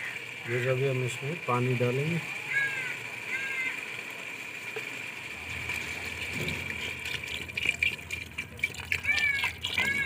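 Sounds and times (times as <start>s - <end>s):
water pouring into a metal pot: 0.0s - 10.0s
water splashing on food: 0.7s - 10.0s.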